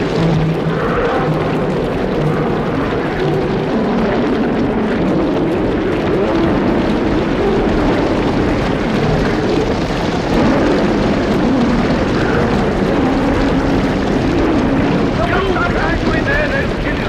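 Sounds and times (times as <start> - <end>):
lions growling and roaring: 0.0 - 16.8.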